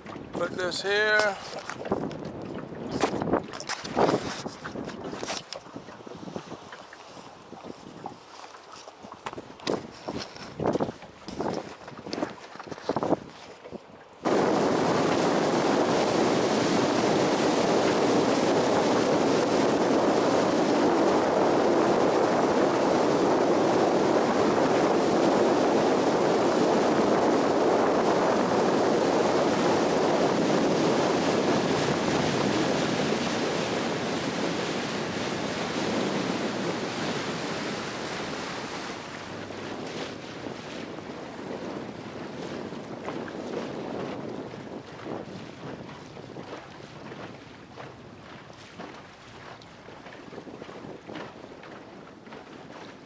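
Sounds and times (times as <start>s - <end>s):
water rushing past boat hull: 0.0s - 53.0s
wind buffeting microphone: 0.0s - 53.0s.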